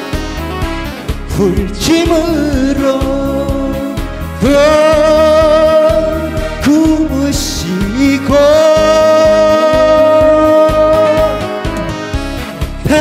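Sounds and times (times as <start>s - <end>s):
backing track with steady beat: 0.0s - 13.0s
man singing into microphone: 1.2s - 11.8s, 12.7s - 13.0s.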